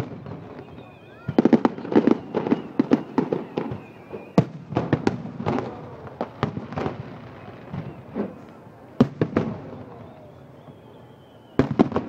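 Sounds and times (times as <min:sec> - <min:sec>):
fireworks bursting with bangs: 0:00.0 - 0:12.0.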